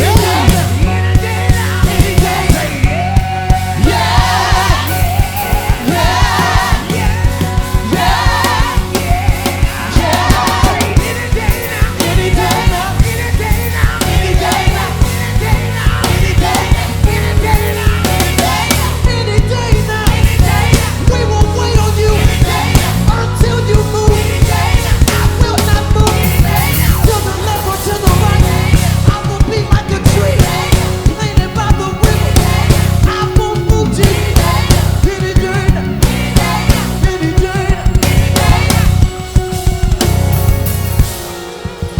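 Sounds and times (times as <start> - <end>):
drum kit beat: 0.0 - 41.9
heavy bass: 0.0 - 41.9
live rock band music: 0.0 - 41.9.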